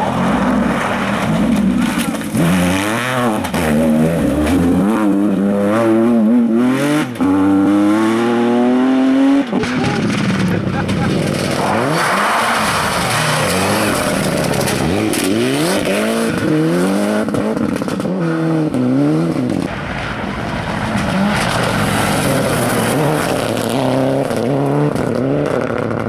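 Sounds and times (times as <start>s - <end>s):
rally car engines accelerating: 0.0s - 26.0s.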